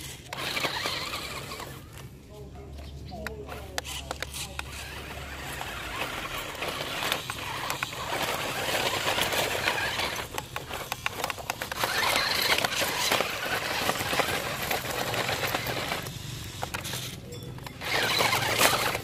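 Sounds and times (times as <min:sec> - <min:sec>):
toy car motor whirring: 0:00.0 - 0:02.1, 0:03.2 - 0:19.0
rubble clicking and scraping: 0:00.0 - 0:19.0.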